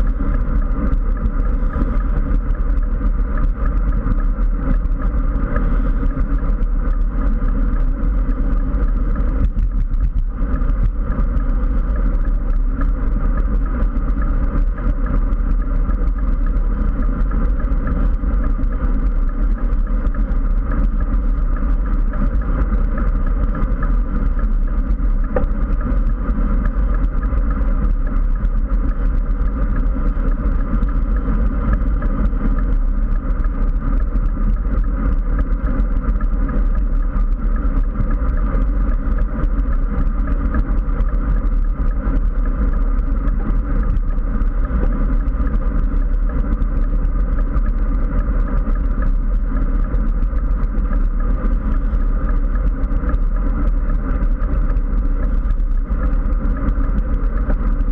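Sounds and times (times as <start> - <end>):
wind rumble on microphone: 0.0 - 57.9.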